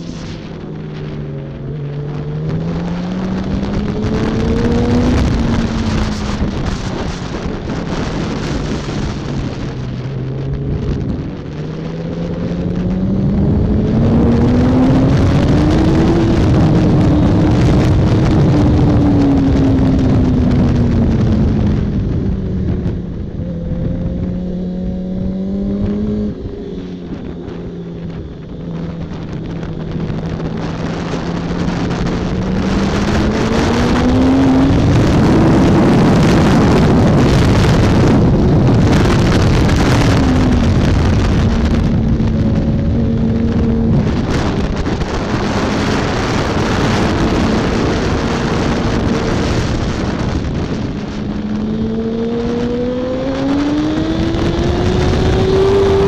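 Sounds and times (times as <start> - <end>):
motorcycle engine revving: 0.0 - 56.0
wind rush: 0.0 - 56.0.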